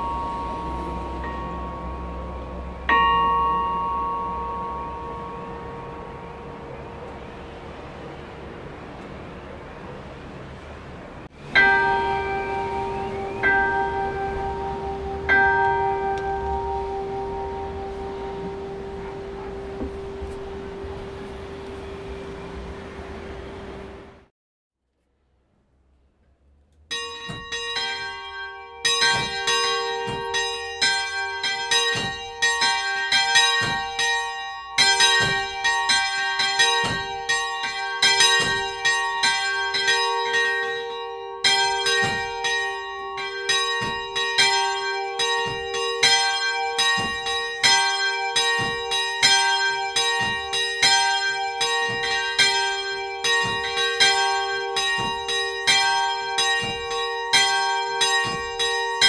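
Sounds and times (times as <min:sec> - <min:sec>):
higher church bell ringing: 0:00.0 - 0:10.1, 0:11.3 - 0:24.3, 0:26.9 - 0:59.0
lower church bell ringing: 0:00.0 - 0:10.3, 0:11.3 - 0:24.3, 0:26.9 - 0:59.0.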